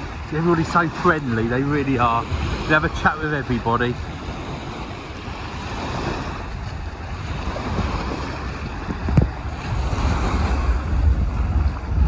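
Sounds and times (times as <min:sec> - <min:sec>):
small waves breaking on shore: 0:00.0 - 0:12.0
wind buffeting microphone: 0:00.0 - 0:12.0.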